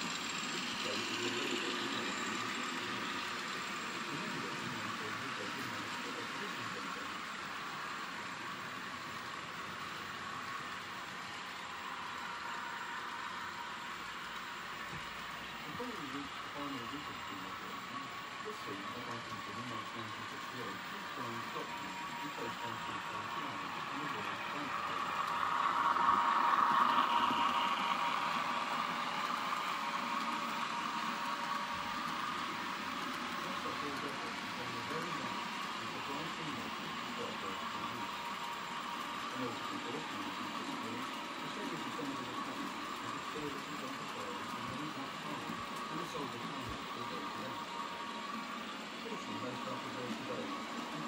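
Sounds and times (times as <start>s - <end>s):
model train running on track: 0.0s - 51.0s.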